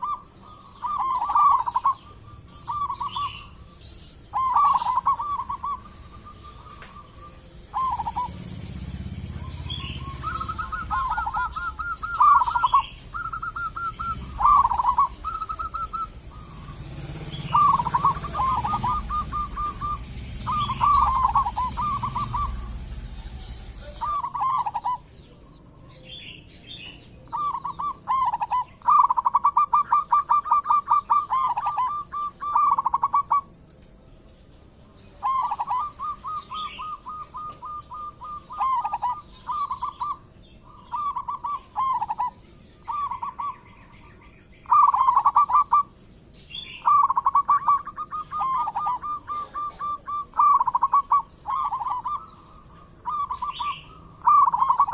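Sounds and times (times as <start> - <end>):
doves cooing: 0.0 - 33.6, 34.9 - 54.9.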